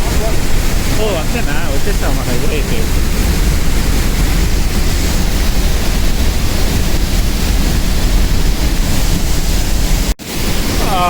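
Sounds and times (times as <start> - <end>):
waterfall roaring: 0.0 - 11.0
wind rumbling on microphone: 0.0 - 11.0.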